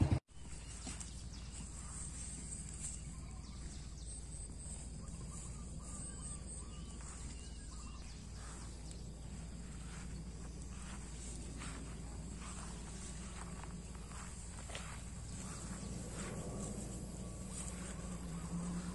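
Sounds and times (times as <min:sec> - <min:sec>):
low steady hum: 0:00.0 - 0:18.9
high insect drone: 0:00.4 - 0:18.9.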